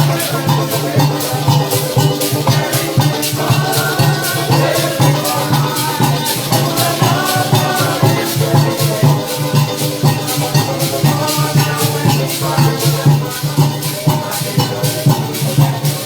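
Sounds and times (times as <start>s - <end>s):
band playing: 0.0s - 16.0s
maracas shaking: 0.0s - 16.0s
pulsing bass line: 0.0s - 16.0s.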